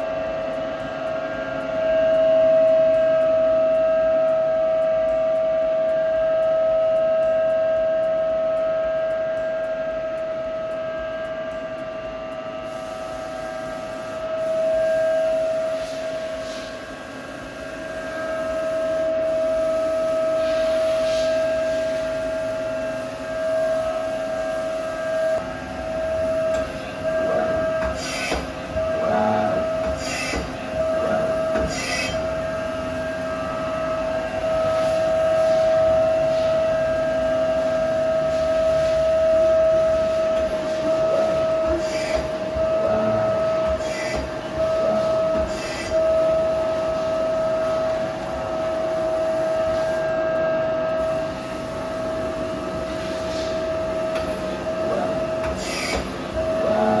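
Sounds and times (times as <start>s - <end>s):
machine drives whining: 0.0s - 57.0s.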